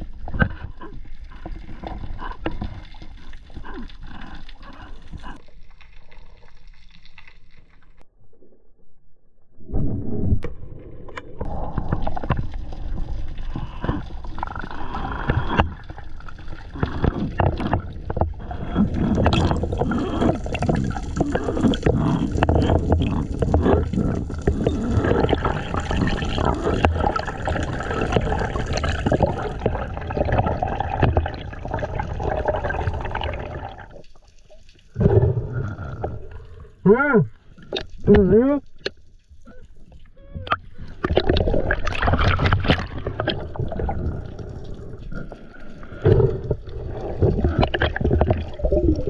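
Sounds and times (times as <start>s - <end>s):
water gurgling underwater: 9.5s - 49.0s.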